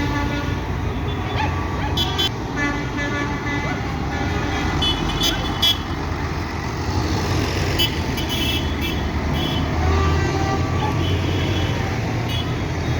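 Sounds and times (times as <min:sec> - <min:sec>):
tractor engines running: 0:00.0 - 0:12.9.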